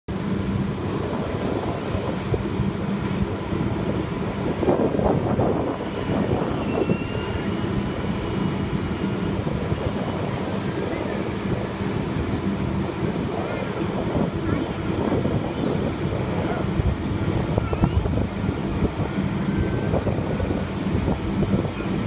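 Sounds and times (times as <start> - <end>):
truck engine running: 0.1 - 22.0.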